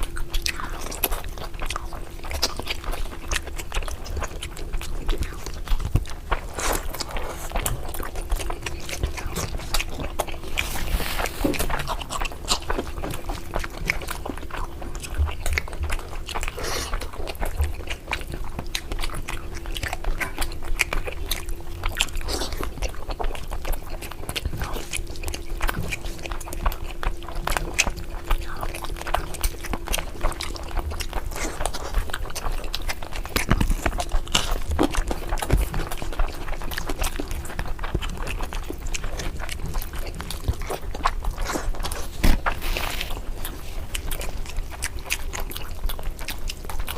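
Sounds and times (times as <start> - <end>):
chewing and wet mouth sounds: 0.0 - 46.9
faint steady hum: 0.0 - 46.9.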